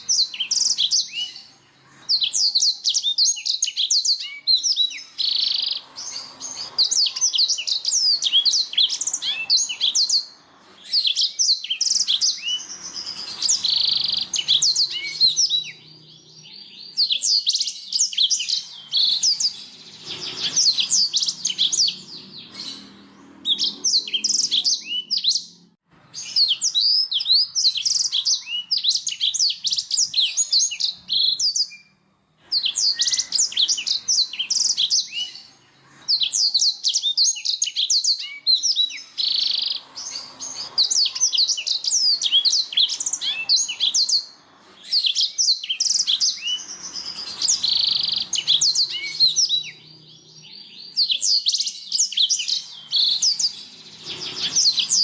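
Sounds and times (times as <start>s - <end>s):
canary singing chirps and trills: 0.0s - 55.0s.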